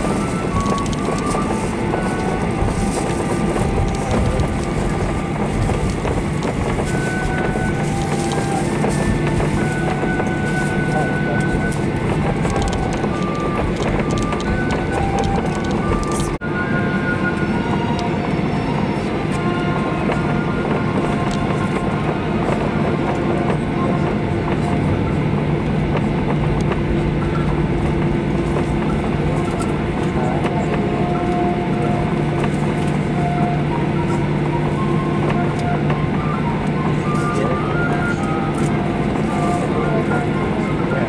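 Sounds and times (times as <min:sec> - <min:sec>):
airframe and wheels rumbling: 0:00.0 - 0:41.0
jet engines humming at low power: 0:00.0 - 0:41.0.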